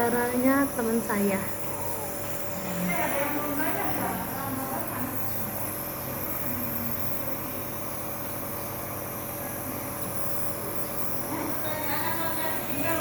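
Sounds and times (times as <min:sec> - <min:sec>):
nebulizer compressor humming and hissing: 0:00.0 - 0:13.0.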